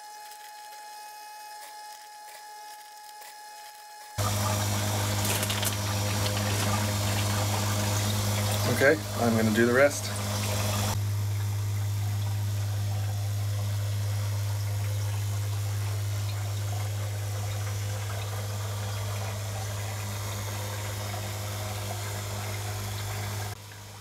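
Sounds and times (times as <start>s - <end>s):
water pump humming: 0.0s - 24.0s.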